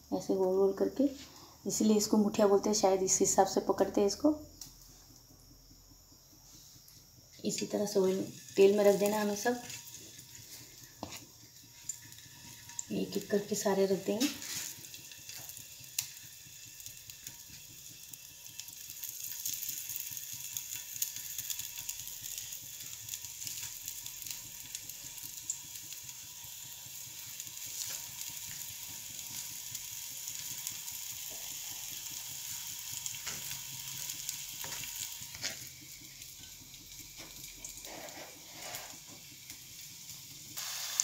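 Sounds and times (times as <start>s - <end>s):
oil sizzling in frying pan: 6.2s - 41.0s.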